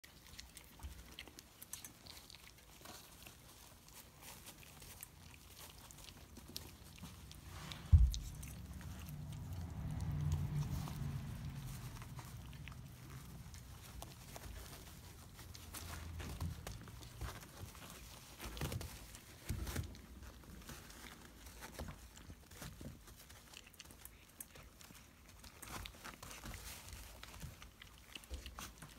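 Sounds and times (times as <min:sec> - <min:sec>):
pad crinkling: 0:00.0 - 0:28.9
puppies crunching and chewing: 0:00.0 - 0:28.9.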